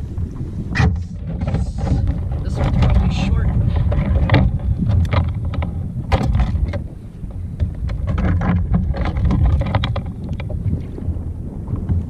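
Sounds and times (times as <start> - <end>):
water splashing against hull: 0.0 - 12.0
wind buffeting microphone: 0.0 - 12.0.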